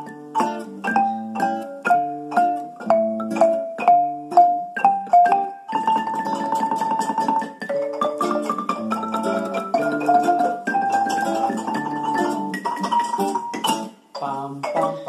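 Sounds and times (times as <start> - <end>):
nylon-string guitar: 0.0 - 15.0
wooden marimba rolls: 0.0 - 15.0.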